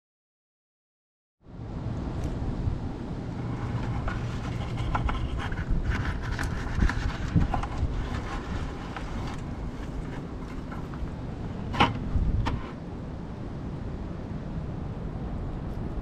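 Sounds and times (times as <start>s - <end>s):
wind rumble on microphone: 1.4s - 16.0s.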